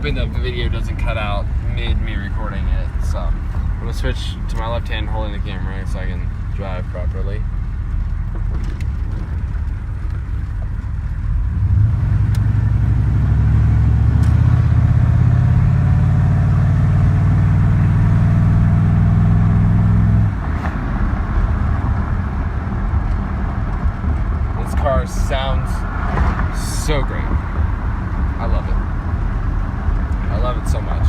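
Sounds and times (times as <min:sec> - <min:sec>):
diesel engine drone from inside cab: 0:00.0 - 0:31.0.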